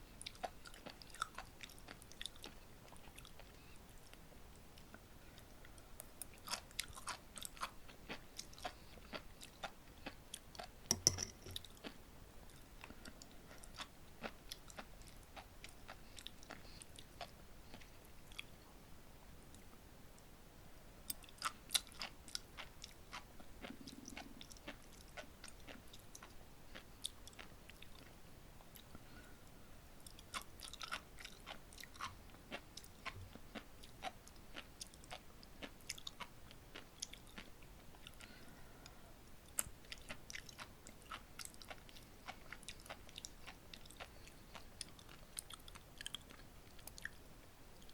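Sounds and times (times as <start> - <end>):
chewing with crisp pops: 0.2 - 18.6, 21.1 - 29.3, 30.0 - 38.4, 39.4 - 47.2.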